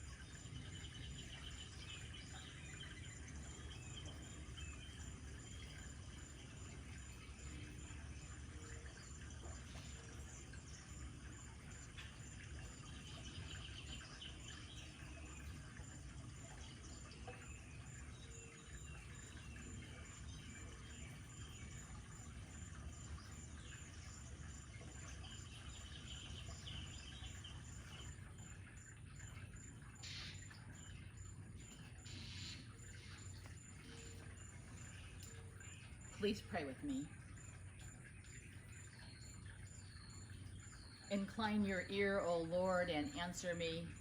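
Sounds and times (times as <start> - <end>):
birds chirping faintly: 0.0 - 44.0.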